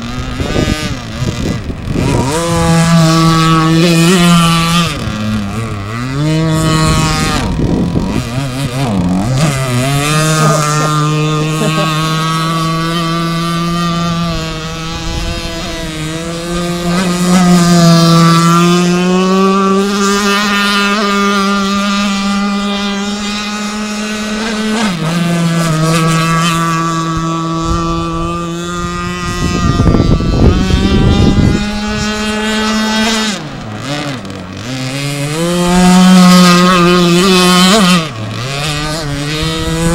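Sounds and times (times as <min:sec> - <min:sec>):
model boat engine high revs: 0:00.0 - 0:39.9.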